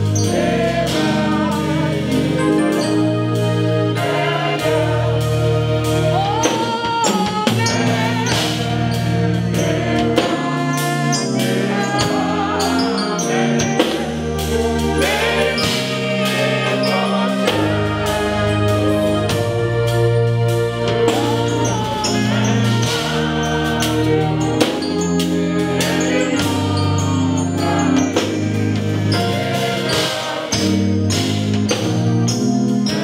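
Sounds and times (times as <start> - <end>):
bass line: 0.0 - 33.0
drums: 0.0 - 33.0
gospel singing: 0.0 - 33.0.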